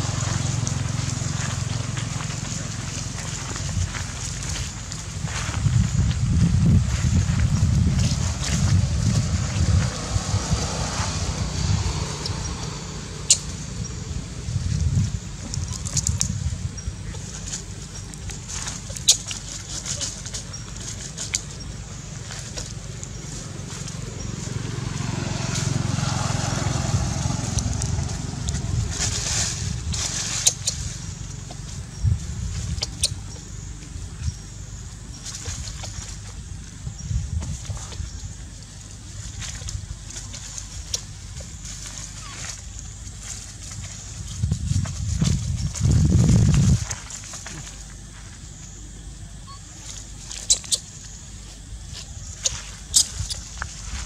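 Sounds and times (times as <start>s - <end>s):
dry leaves crackling and rustling: 0.0s - 54.0s
steady low rumble: 0.0s - 54.0s.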